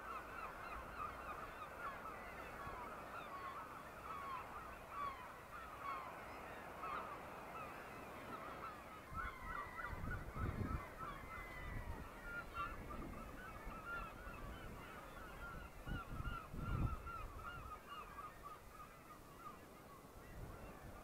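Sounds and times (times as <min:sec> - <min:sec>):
gulls calling: 0:00.0 - 0:21.0.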